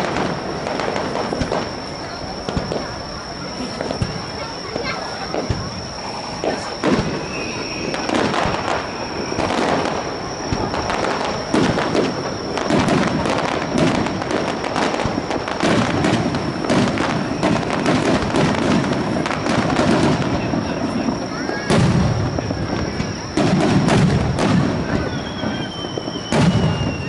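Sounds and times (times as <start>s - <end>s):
fireworks bursts and crackles: 0.0s - 27.0s
heavy firework booms: 0.0s - 27.0s.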